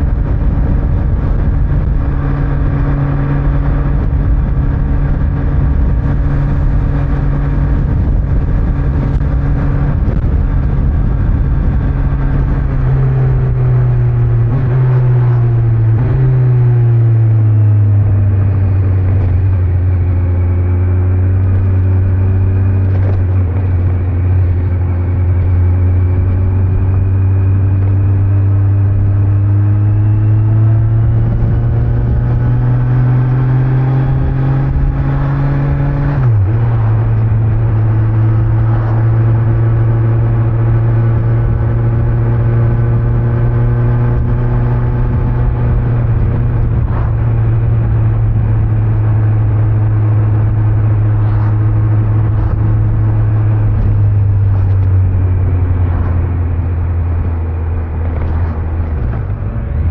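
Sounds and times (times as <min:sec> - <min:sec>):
motorcycle engine: 0:00.0 - 0:59.9
road and wind noise: 0:00.0 - 0:59.9.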